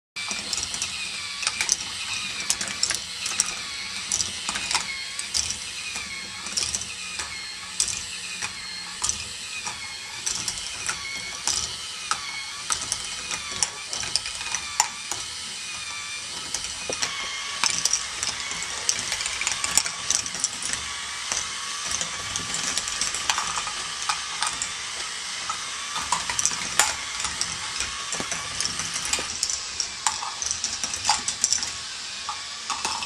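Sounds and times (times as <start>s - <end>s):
plastic balls clicking on track: 0.2s - 33.0s
plastic ratcheting clatter: 0.2s - 33.0s
wavering motor whine: 0.2s - 33.0s.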